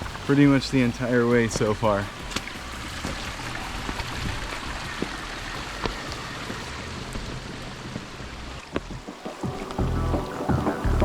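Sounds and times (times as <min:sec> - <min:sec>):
rain falling: 0:00.0 - 0:11.0
water rushing down trail: 0:00.0 - 0:11.0.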